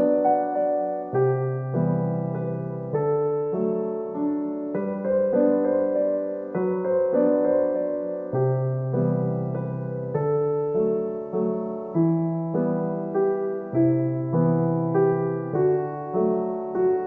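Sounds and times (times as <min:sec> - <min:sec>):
gentle solo piano piece: 0:00.0 - 0:17.0.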